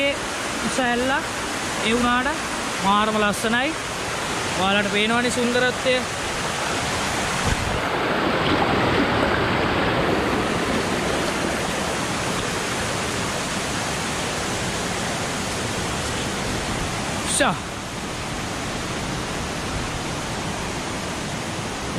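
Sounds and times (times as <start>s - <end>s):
stream water rushing over rocks: 0.0s - 21.9s.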